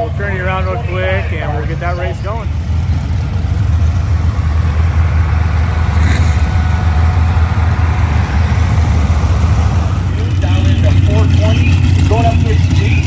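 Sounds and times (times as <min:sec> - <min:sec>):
race engines idling: 0:00.0 - 0:13.0.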